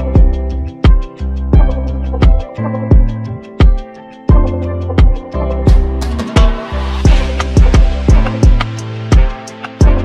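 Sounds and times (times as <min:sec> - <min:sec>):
sustained bass and chords: 0:00.0 - 0:10.0
kick drum beat: 0:00.1 - 0:10.0.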